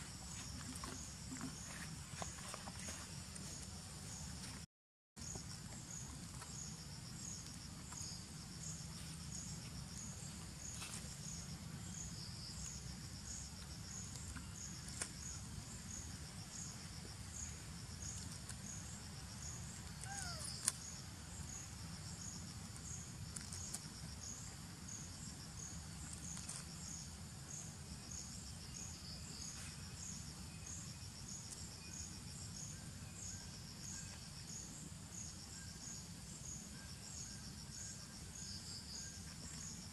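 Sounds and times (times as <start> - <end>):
insects chirping: 0.0 - 4.6, 5.2 - 39.9
insect trill: 5.2 - 39.9.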